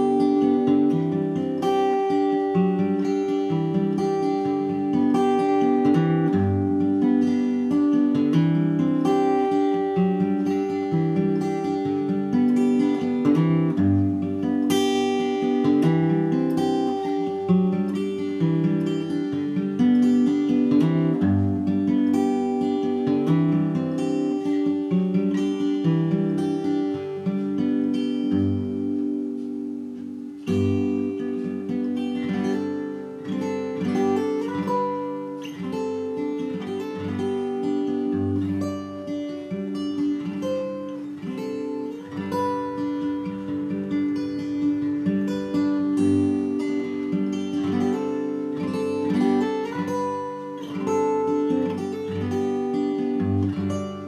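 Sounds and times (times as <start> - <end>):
fingerpicked acoustic guitar: 0.0 - 54.0.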